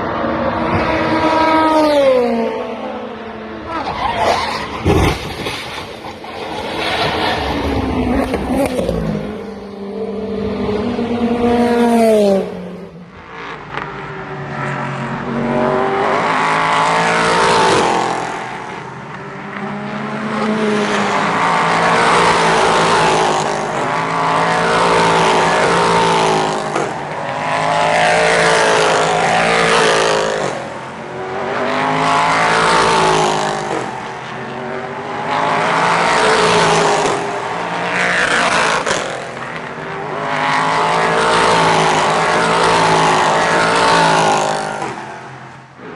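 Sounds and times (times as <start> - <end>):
racing cars passing: 0.0 - 45.9.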